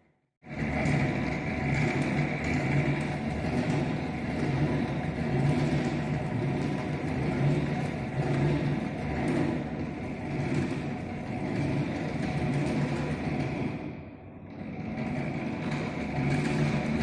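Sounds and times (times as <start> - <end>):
coil winding machine whirring: 0.5 - 17.0.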